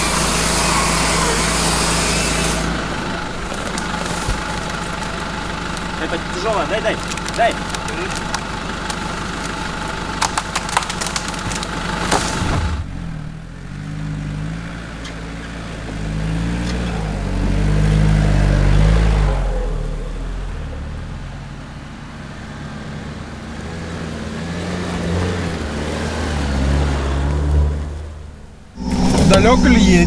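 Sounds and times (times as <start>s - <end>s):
suv engine revving: 0.0s - 30.0s.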